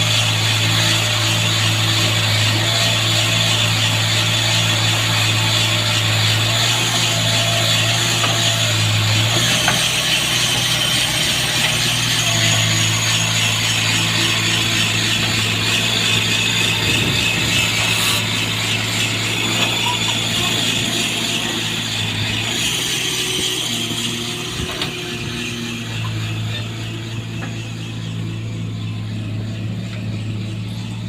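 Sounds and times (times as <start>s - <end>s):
diesel engine hum: 0.0s - 31.0s.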